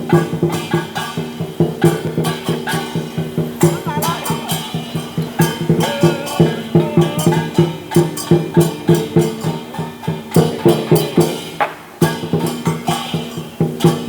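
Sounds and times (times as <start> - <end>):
cymbal clashes: 0.0 - 14.0
drums beating: 0.0 - 14.0.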